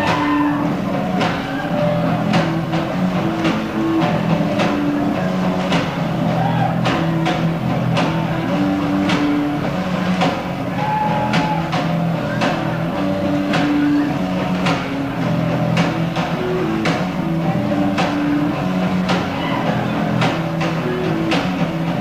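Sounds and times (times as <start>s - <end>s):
drum kit beat: 0.0s - 22.0s
heavy electric guitars: 0.0s - 22.0s.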